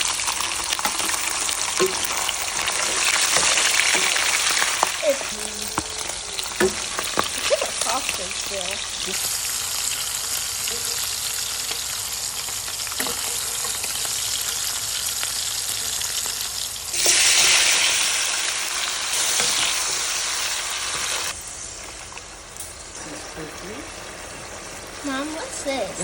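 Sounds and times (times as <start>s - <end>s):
sausage sizzling in a pan: 0.0s - 26.0s.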